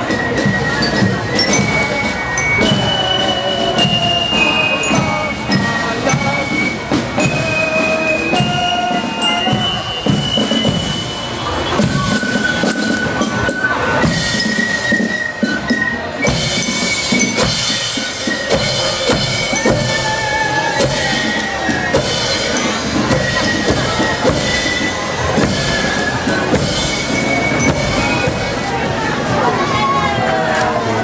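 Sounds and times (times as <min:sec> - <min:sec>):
bass drum and side drums: 0:00.0 - 0:31.0.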